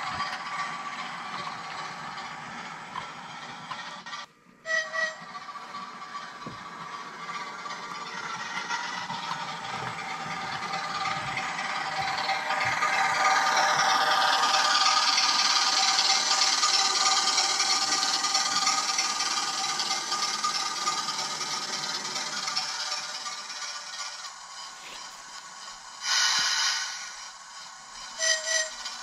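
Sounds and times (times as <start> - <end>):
model train wheels rattling: 0.0 - 4.3, 4.9 - 29.0.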